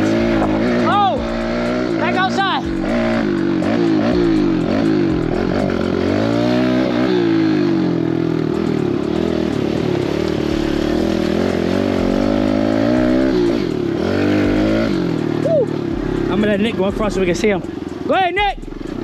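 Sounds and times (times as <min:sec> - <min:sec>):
mini dirt bike engine revving: 0:00.0 - 0:18.1.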